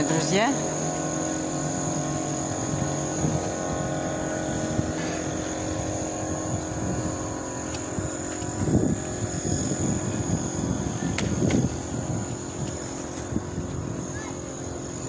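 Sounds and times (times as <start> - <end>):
jet airliner engine drone: 0.0 - 15.0.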